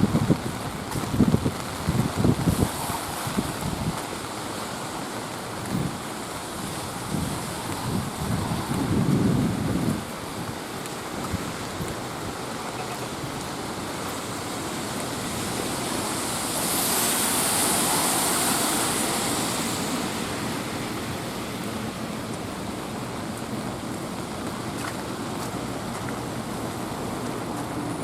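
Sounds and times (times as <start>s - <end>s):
light rain: 0.0s - 28.0s
vehicle passing on wet road: 0.0s - 28.0s.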